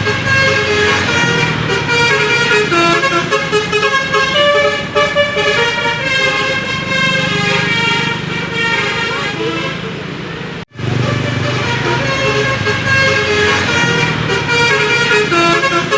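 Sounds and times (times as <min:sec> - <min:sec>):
bus horn playing a melody: 0:00.0 - 0:15.9
large vehicle engine: 0:00.0 - 0:15.9.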